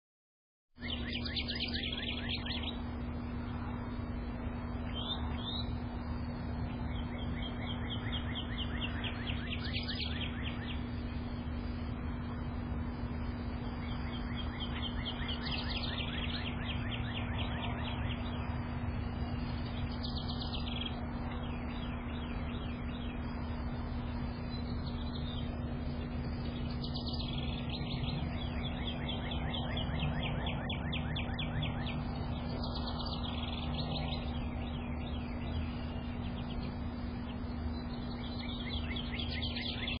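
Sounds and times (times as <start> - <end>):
low hum and rumble: 0.8 - 40.0
songbird trilling: 0.8 - 40.0.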